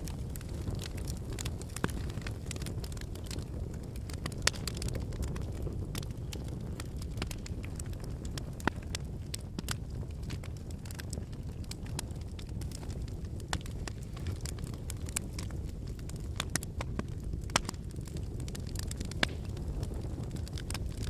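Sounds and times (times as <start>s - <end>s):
burning logs crackling and popping: 0.0s - 21.0s
campfire flame rush: 0.0s - 21.0s.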